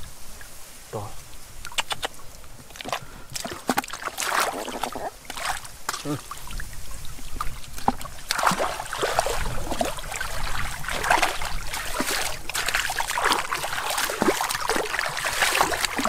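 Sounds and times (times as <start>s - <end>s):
hands squelching in wet mud: 1.6s - 6.6s, 7.2s - 16.0s
small splashes in muddy water: 1.6s - 16.0s.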